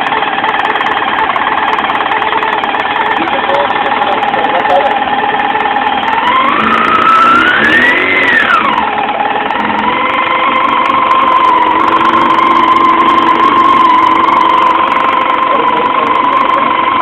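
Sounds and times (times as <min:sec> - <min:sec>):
motorcycle engine revving and idling: 0:00.0 - 0:17.0.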